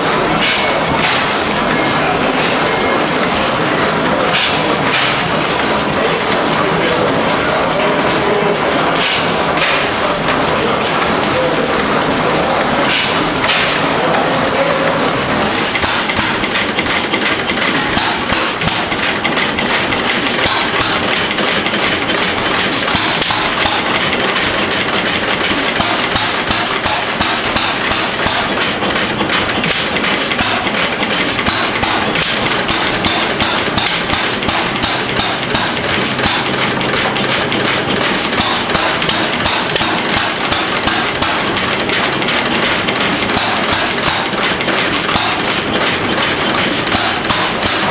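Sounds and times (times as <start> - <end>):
stationary engine clattering: 0.0 - 47.9.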